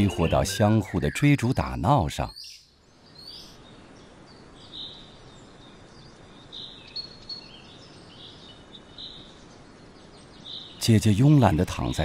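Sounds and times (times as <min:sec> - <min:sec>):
birds chirping: 0:00.0 - 0:12.0
outdoor background hiss: 0:00.0 - 0:12.0.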